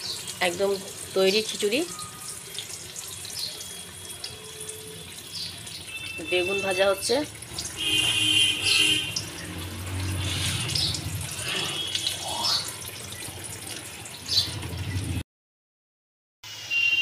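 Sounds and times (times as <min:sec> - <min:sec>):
eggplants frying in hot oil: 0:00.0 - 0:15.2.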